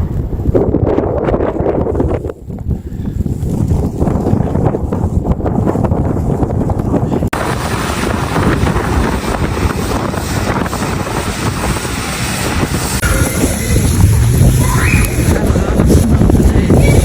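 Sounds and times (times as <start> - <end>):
blizzard wind buffeting microphone: 0.0 - 17.0.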